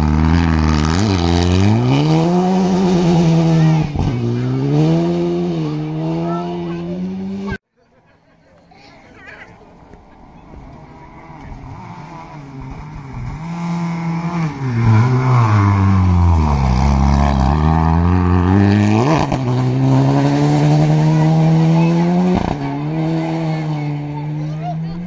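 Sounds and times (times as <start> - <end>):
rally car engine revving: 0.0 - 7.6, 9.9 - 25.0.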